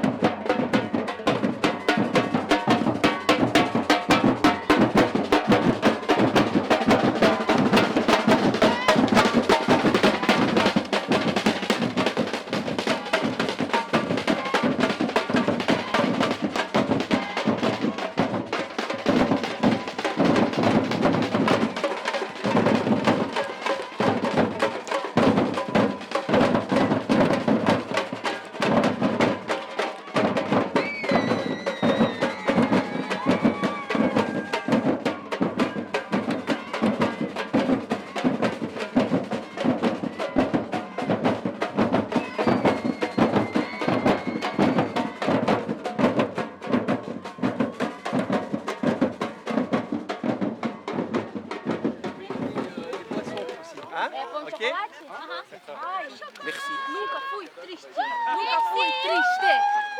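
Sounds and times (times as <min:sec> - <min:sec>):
samba drums playing: 0:00.0 - 0:59.9.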